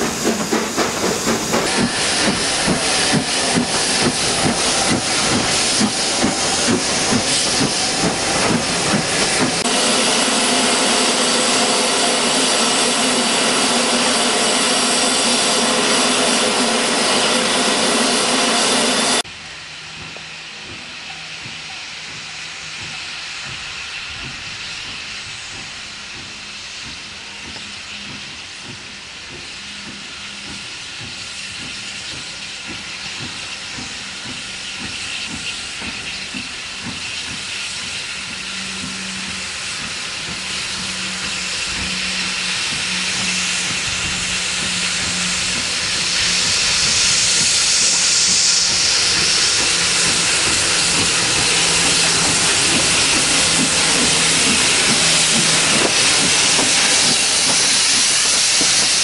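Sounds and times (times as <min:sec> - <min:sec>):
locomotive steam hissing: 0:00.0 - 0:59.0.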